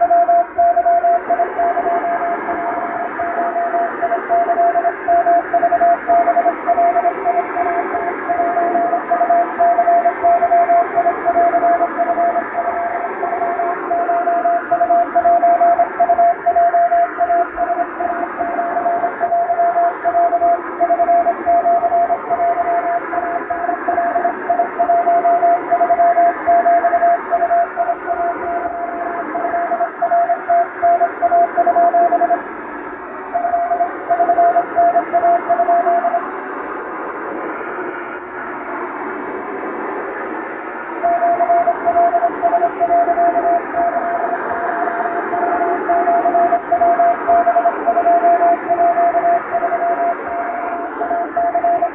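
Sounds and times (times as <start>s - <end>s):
morse code beeping: 0.0s - 32.4s, 33.3s - 36.2s, 41.0s - 51.9s.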